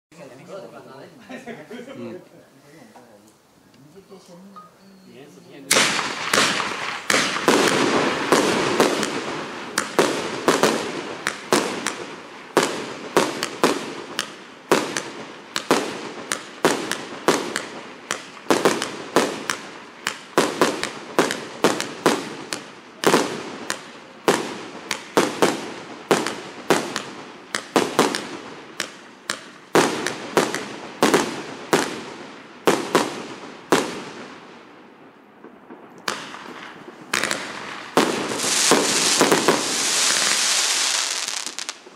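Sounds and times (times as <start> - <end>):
fireworks cake shots and bursts: 5.7 - 34.4, 35.4 - 41.9.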